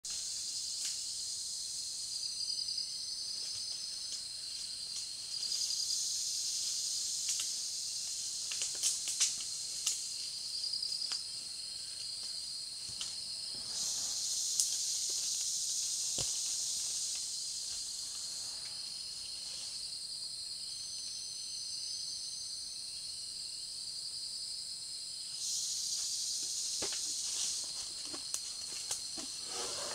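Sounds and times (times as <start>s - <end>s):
insects buzzing chorus: 0.1s - 29.9s.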